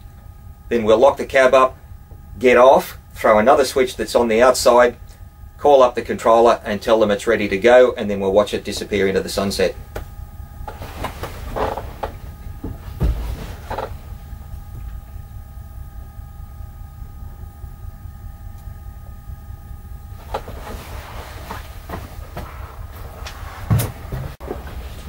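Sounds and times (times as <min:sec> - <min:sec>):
faint steady whine: 0:00.0 - 0:25.0
locomotive engine idling: 0:00.0 - 0:25.0.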